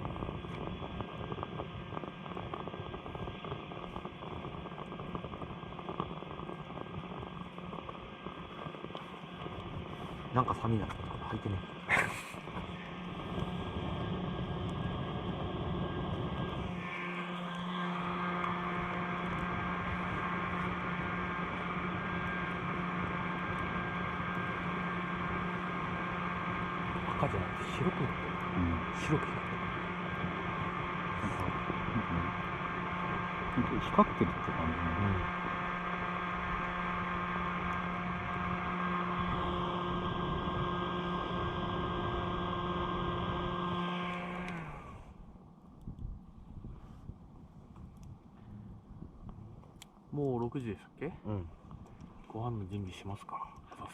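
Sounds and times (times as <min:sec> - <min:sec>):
low constant hum: 0:00.0 - 0:53.9
stove roaring: 0:00.0 - 0:53.9.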